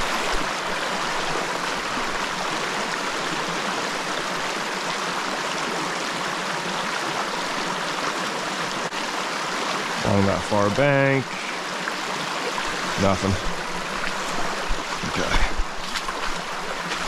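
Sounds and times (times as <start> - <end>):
mountain stream rushing over rock: 0.0 - 17.0.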